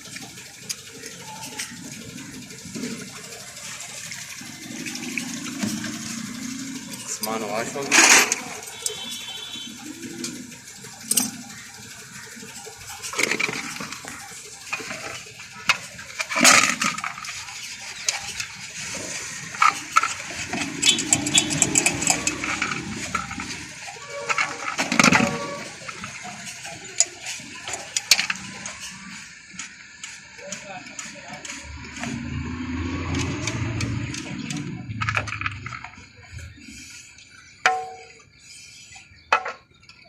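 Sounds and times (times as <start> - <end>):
metal parts and tools clinking: 0.6 - 9.6, 10.2 - 11.8, 12.4 - 36.8.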